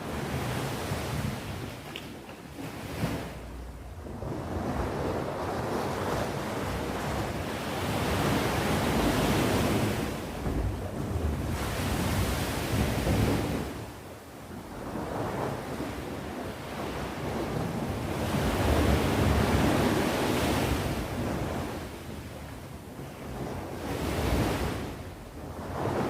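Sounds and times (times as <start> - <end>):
sea waves breaking on shore: 0.0 - 26.0.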